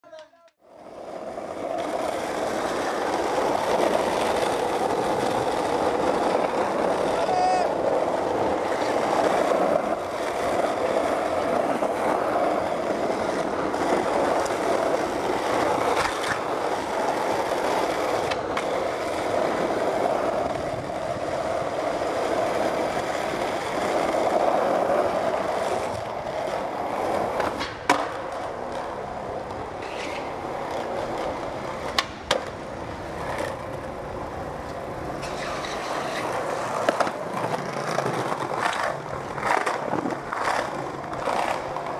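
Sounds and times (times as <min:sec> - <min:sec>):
skateboard wheels rolling on pavement: 0:00.0 - 0:41.9.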